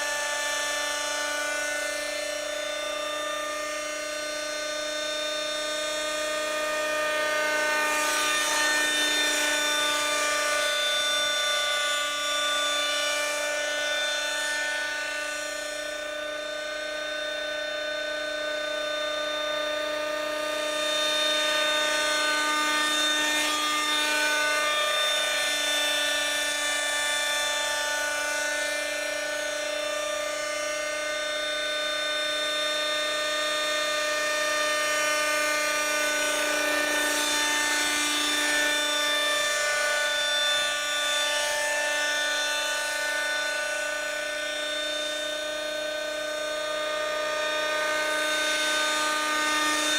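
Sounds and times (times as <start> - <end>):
model helicopter buzzing: 0.0 - 49.9.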